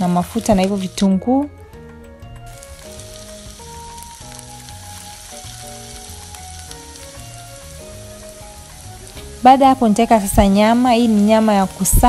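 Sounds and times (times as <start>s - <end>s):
vegetables sizzling in oil: 0.0s - 1.5s, 2.3s - 12.0s
soft melodic music: 0.0s - 12.0s.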